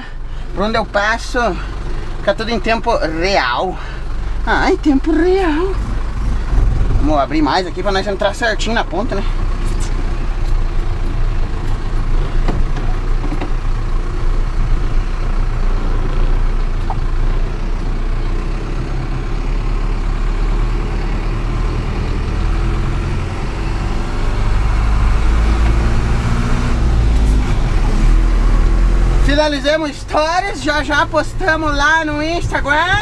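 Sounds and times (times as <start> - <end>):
truck diesel engine rumbling: 0.0 - 33.0.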